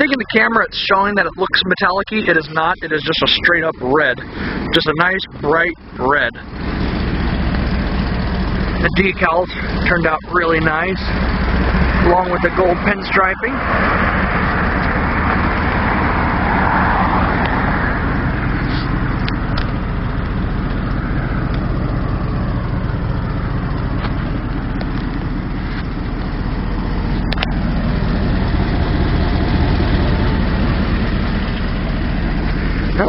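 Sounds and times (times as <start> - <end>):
pickup truck engine idling: 0.0 - 33.0
broad rushing noise: 2.4 - 33.0.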